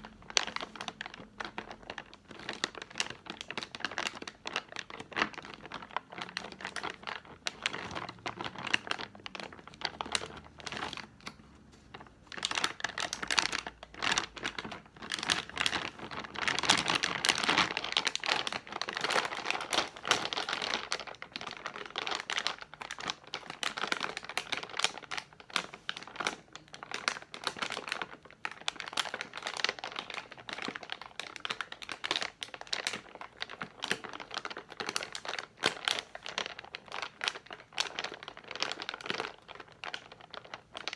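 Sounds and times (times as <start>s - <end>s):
packaging crinkling: 0.0s - 40.9s.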